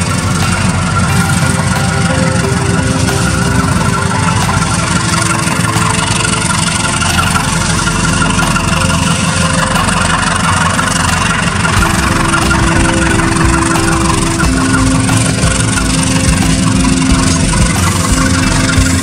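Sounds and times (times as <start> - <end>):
locomotive engine idling: 0.0 - 19.0.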